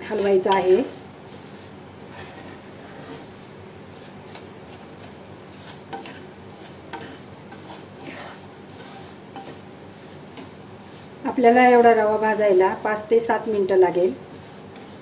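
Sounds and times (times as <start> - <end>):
faint sizzle: 0.0 - 15.0
spatula scraping a pan: 0.0 - 15.0.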